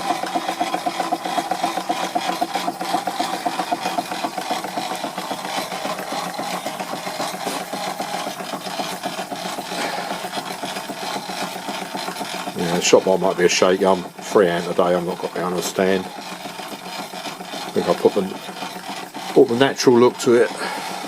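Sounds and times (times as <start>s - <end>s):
steam engine mechanical beat: 0.0s - 21.0s.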